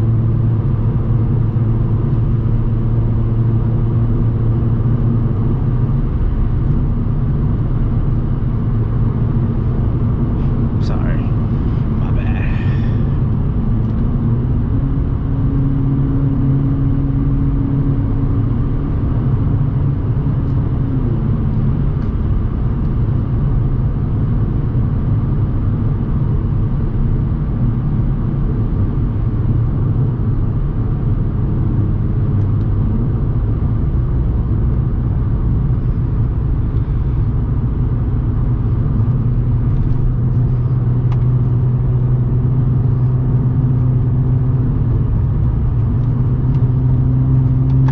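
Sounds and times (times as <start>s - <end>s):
car engine droning: 0.0s - 47.9s.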